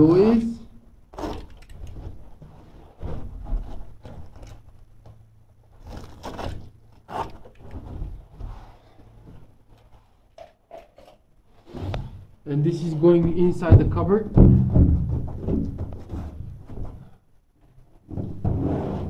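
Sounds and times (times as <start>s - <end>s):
carpet scraping and rustling: 1.2s - 10.3s, 11.6s - 19.0s.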